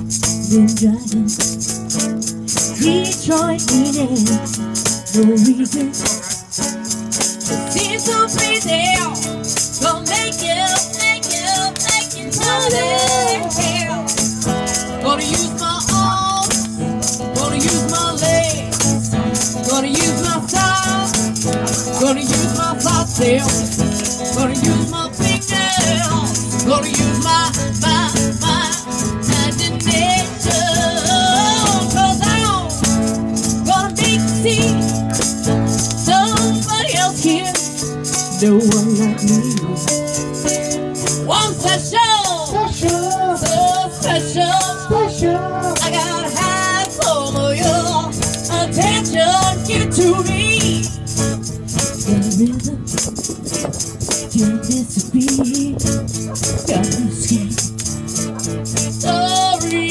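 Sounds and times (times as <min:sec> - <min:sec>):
acoustic band playing pop-rock: 0:00.0 - 0:59.9
woman singing into microphone: 0:00.2 - 0:01.7, 0:02.5 - 0:06.3, 0:07.4 - 0:40.2, 0:41.1 - 0:51.0, 0:52.0 - 0:59.9.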